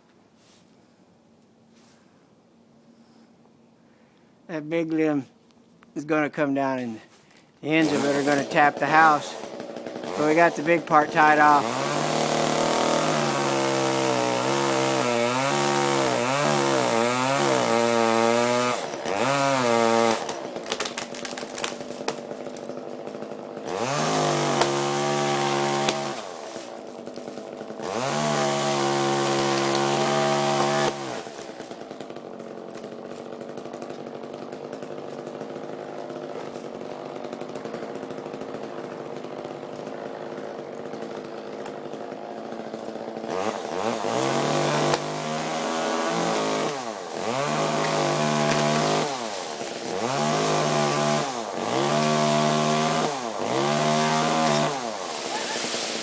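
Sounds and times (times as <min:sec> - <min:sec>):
chainsaw cutting and idling: 0:06.2 - 0:56.0.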